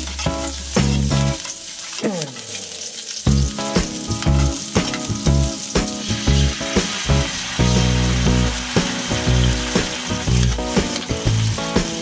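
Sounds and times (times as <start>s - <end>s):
background music with bass line: 0.0s - 1.4s, 3.3s - 12.0s
garlic and onion sizzling in oil: 0.0s - 12.0s
sauce poured into hot pan: 0.0s - 12.0s.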